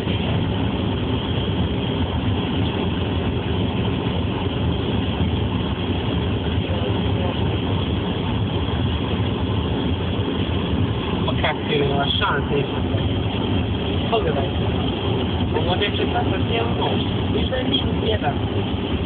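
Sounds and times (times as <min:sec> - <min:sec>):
car engine drone: 0:00.0 - 0:19.0
road noise: 0:00.0 - 0:19.0.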